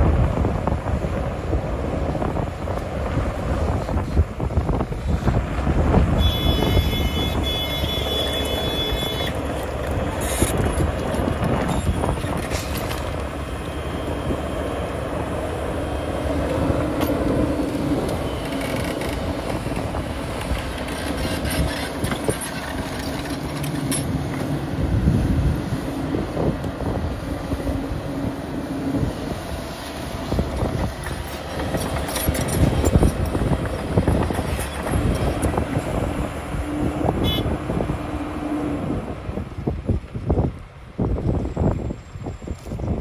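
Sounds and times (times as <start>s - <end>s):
excavator diesel engine under load: 0.0s - 43.0s
hydraulics working: 3.9s - 39.4s.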